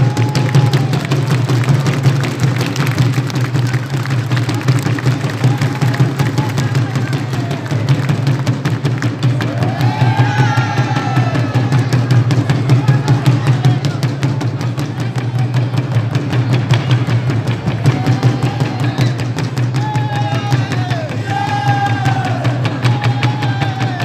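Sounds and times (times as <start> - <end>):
large drums beaten with sticks: 0.0 - 24.0.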